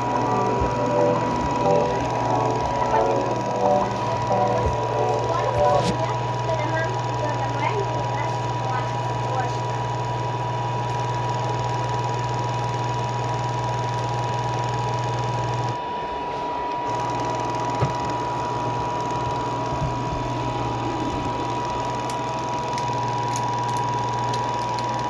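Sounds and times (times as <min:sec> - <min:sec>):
robot vacuum cleaner running: 0:00.0 - 0:25.0.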